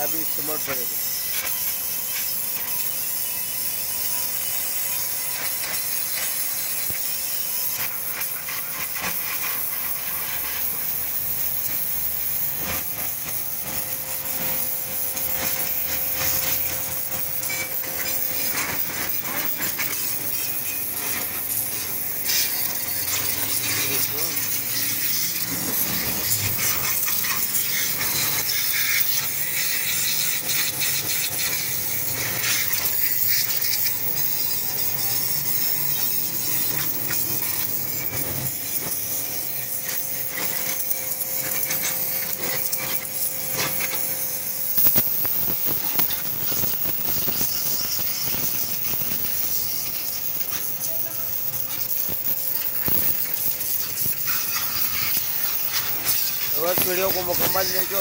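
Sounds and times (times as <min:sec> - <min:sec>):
pressure washer jet hissing: 0:00.0 - 0:58.0.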